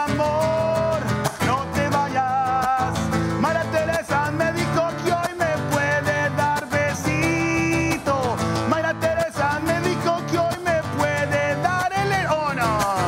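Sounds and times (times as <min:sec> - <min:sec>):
acoustic guitar strumming: 0:00.0 - 0:13.0
man singing with vibrato: 0:00.0 - 0:13.0.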